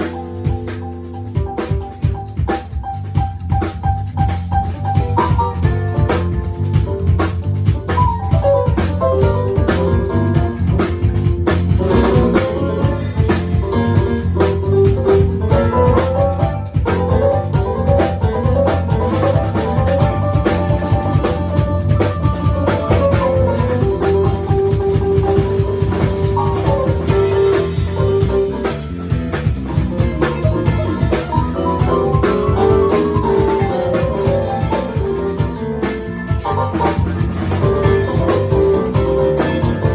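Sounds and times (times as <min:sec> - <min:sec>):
live band playing: 0:00.0 - 0:39.9
steady drum beat: 0:00.0 - 0:39.9.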